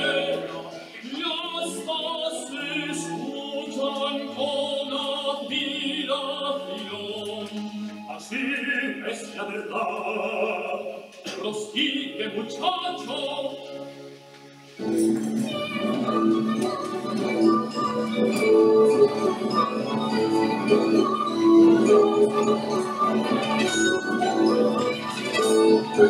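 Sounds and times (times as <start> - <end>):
operatic singing: 0.0 - 13.7, 15.3 - 26.0
instrumental accompaniment: 0.0 - 26.0.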